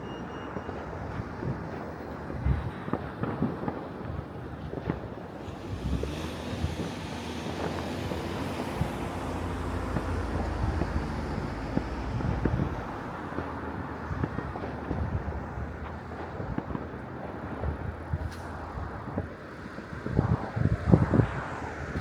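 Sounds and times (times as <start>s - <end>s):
distant firework bangs: 0.0s - 22.0s
wind rumbling on microphone: 0.9s - 22.0s.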